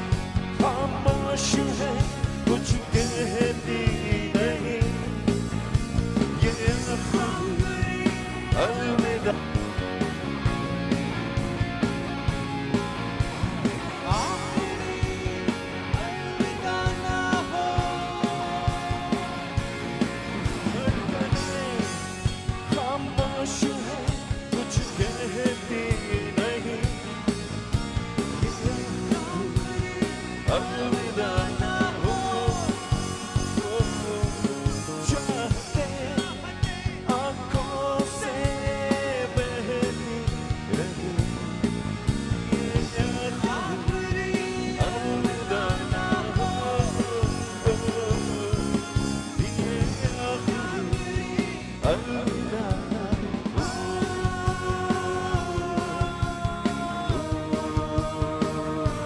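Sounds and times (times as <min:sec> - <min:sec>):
drum kit beat: 0:00.0 - 0:59.0
electric guitars and bass: 0:00.0 - 0:59.0
sliding lead melody: 0:00.0 - 0:59.0.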